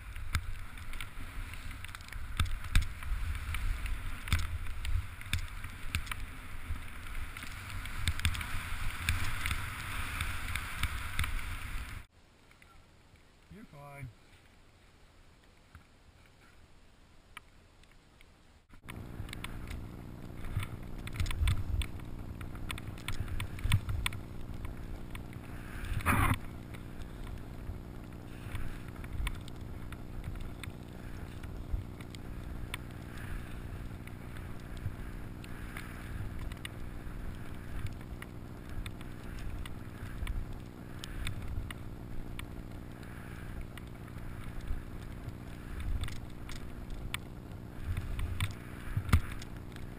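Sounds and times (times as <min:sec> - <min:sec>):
snowboard sliding over snow: 0:00.0 - 0:12.1, 0:18.9 - 0:49.9.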